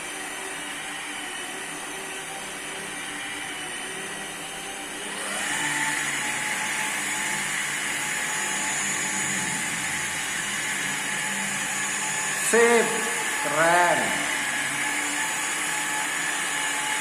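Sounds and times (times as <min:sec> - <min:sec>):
car polisher motor whine: 0:00.0 - 0:17.0.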